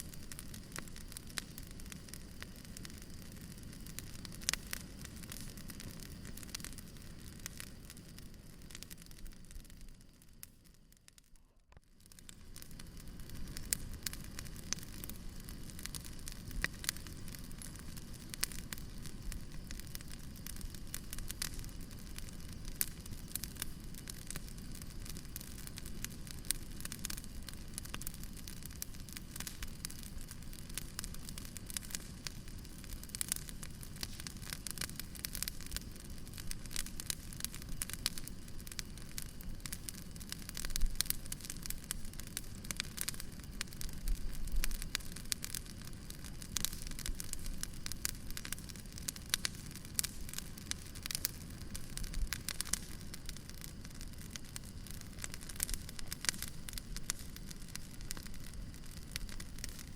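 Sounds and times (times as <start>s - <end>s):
burning logs rumbling: 0.0s - 10.5s, 11.2s - 59.9s
fire crackles and pops: 0.0s - 59.9s.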